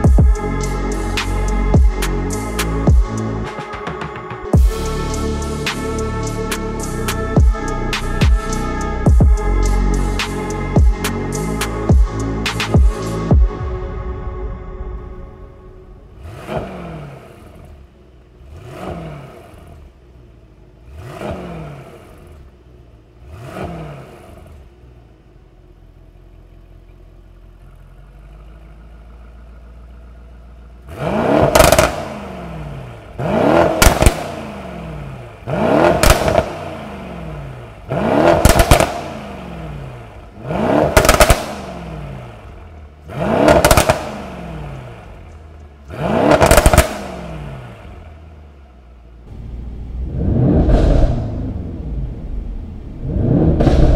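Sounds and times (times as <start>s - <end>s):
car engine idling: 0.0s - 53.9s
car engine revving: 0.0s - 53.9s.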